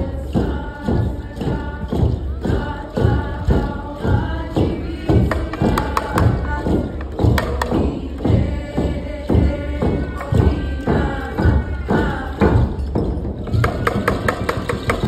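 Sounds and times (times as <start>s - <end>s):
group singing: 0.0s - 15.0s
hand drums beating: 0.0s - 15.0s.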